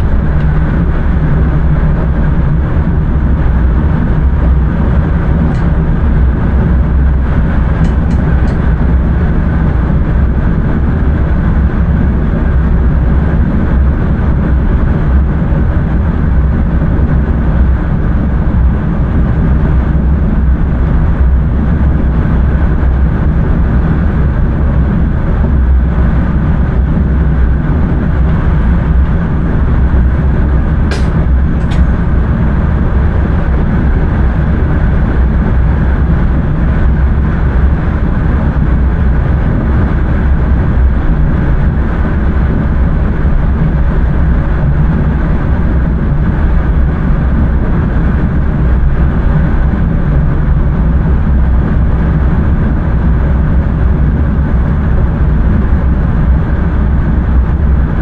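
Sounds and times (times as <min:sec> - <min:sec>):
train rumbling with hiss: 0:00.0 - 0:58.0.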